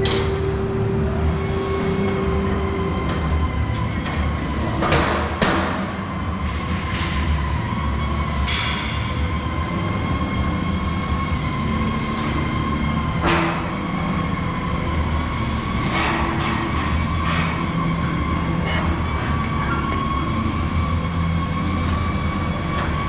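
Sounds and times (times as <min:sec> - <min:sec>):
machine motor hum and whine: 0:00.0 - 0:23.0.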